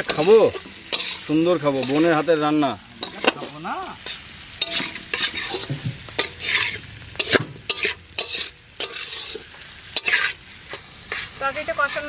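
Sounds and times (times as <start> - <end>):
spoon scraping a pan: 0.0 - 12.0
vegetables frying in oil: 0.0 - 12.0.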